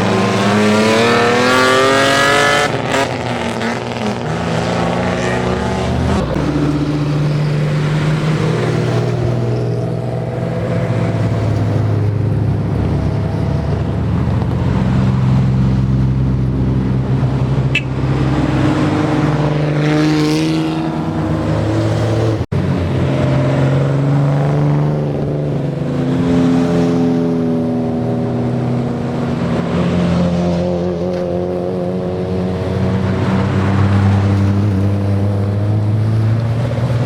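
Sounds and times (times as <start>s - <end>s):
car engines and exhausts: 0.0s - 37.0s.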